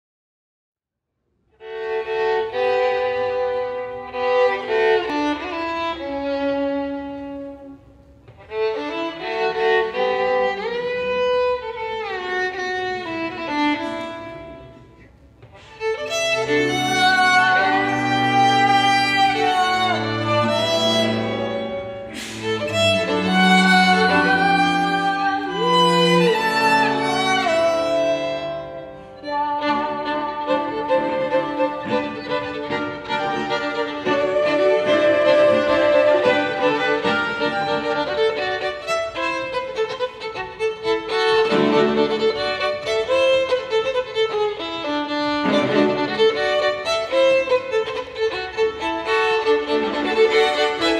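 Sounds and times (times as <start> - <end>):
solo violin melody: 1.5 - 50.9
string quartet playing: 1.6 - 50.9.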